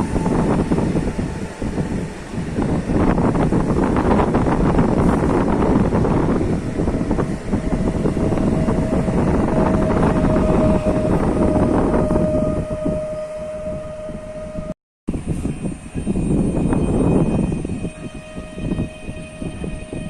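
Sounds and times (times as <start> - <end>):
steady high tone: 0.0 - 20.0
train rumbling past: 0.0 - 20.0
wind buffeting microphone: 0.0 - 20.0.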